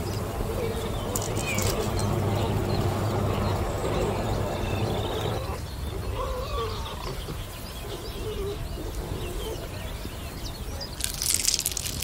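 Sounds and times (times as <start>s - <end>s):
birds chirping: 0.0s - 12.0s
low warbling bird calls: 0.0s - 12.0s.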